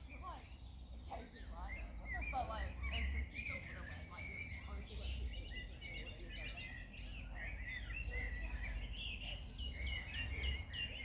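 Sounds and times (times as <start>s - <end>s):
wild birds singing and chirping: 0.0s - 11.0s.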